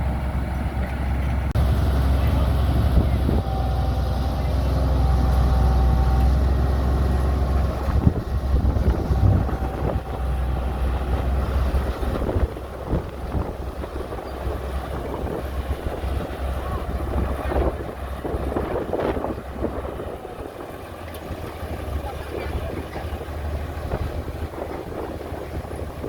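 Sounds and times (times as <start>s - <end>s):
diesel machinery drone: 0.0s - 26.0s
wind buffeting microphone: 1.6s - 26.0s.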